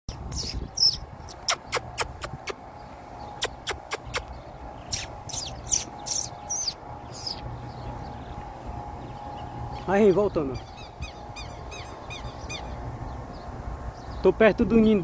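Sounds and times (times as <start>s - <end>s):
birds alarm calls: 0.4s - 15.0s.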